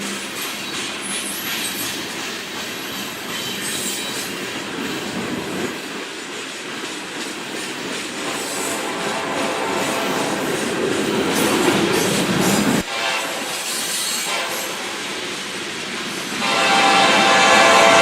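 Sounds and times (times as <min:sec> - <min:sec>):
freight train wheels clicking: 0:00.0 - 0:17.8
train rumble: 0:00.0 - 0:18.0.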